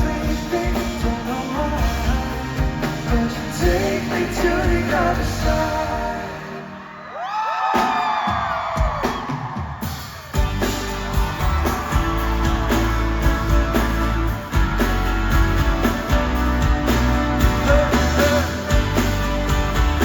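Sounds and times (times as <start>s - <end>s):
drums keeping steady beat: 0.0s - 6.0s, 7.8s - 20.0s
pop-rock band playing: 0.0s - 7.0s, 7.6s - 20.0s.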